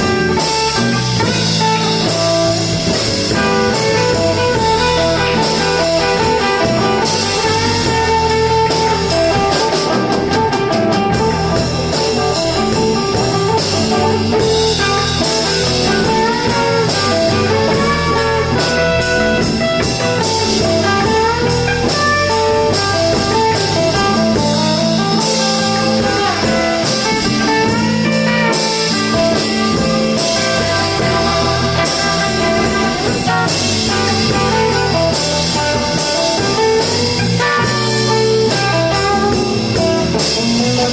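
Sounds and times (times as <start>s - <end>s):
blues band playing: 0.0s - 40.9s
electric guitar lead bending notes: 0.0s - 40.9s.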